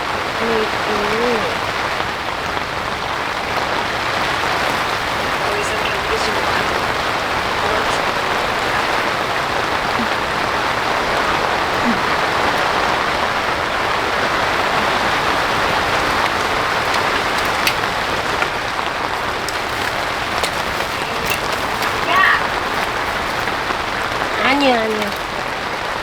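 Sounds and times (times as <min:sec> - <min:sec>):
rain drops ticking: 0:00.0 - 0:26.0
steady rain falling: 0:00.0 - 0:26.0.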